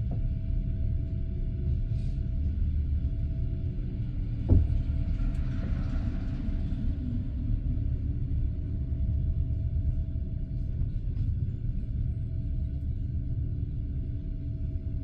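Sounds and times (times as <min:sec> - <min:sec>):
train carriage rumble: 0:00.0 - 0:14.7
faint steady hum: 0:00.0 - 0:15.0.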